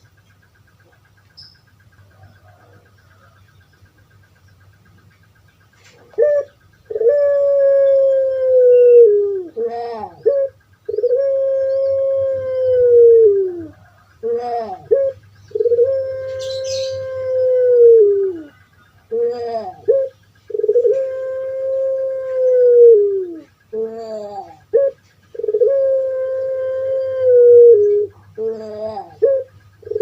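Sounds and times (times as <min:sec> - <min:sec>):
dove cooing: 0:00.0 - 0:04.9, 0:05.7 - 0:30.0.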